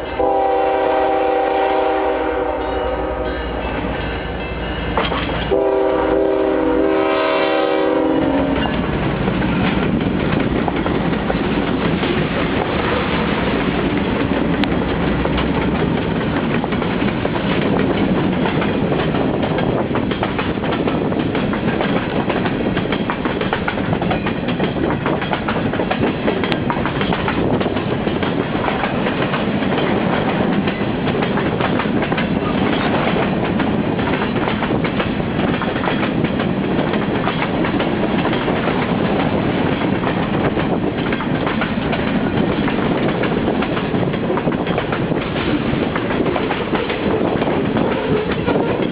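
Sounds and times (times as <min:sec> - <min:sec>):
freight train wheels clattering: 0:00.0 - 0:48.9.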